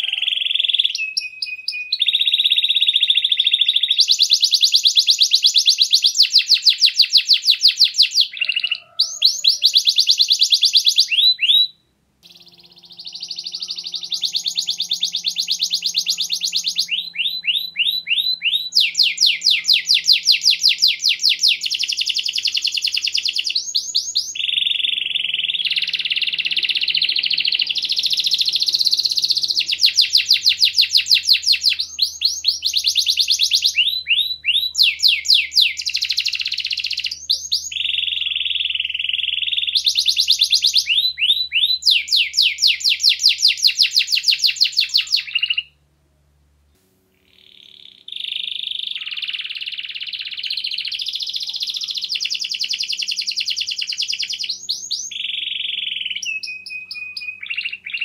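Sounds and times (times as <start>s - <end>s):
canary singing trills: 0.0s - 45.8s, 47.1s - 58.0s.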